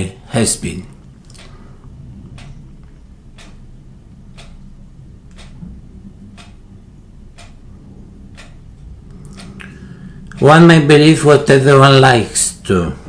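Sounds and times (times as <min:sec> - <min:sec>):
clock ticking: 0:00.0 - 0:12.9
low steady hum: 0:00.0 - 0:13.0.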